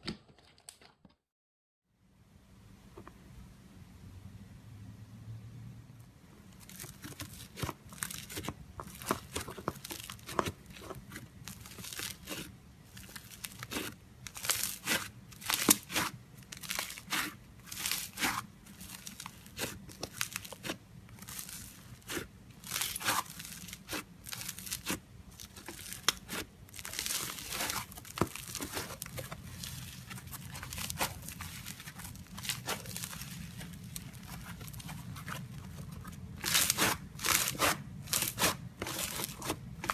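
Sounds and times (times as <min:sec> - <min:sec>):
slime crackling and popping: 0:06.6 - 0:39.9.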